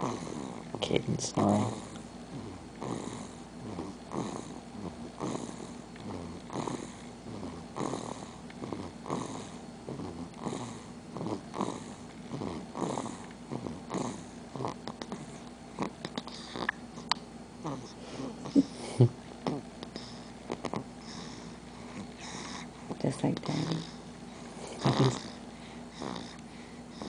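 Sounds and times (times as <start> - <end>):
baby snoring: 0.0 - 18.8, 19.4 - 27.0.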